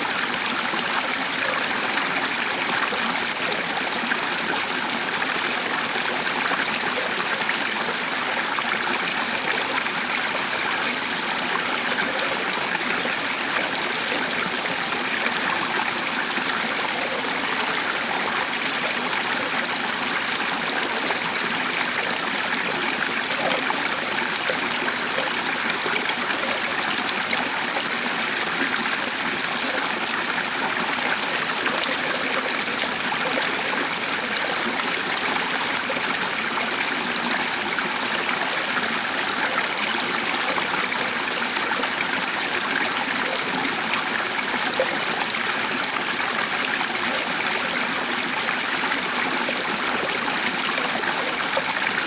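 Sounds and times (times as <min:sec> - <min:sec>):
running water flowing: 0:00.0 - 0:52.0.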